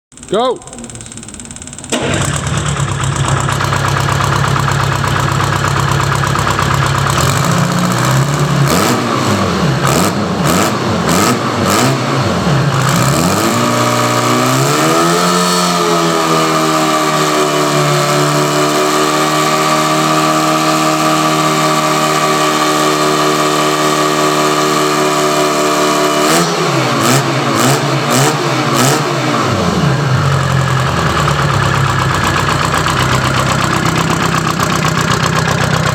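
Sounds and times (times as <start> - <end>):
diesel engine revving: 0.1 - 35.9.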